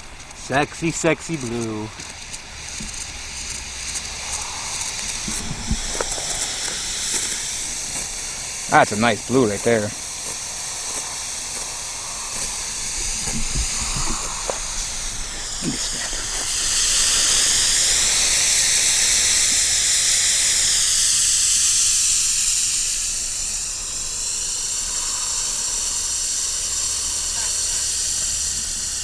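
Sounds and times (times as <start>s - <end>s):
smoke firework hissing: 0.0s - 29.0s.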